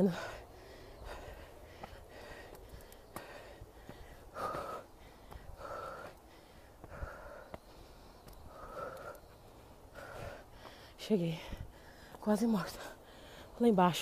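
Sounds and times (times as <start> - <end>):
woman breathing hard: 0.0 - 12.2, 12.8 - 13.6.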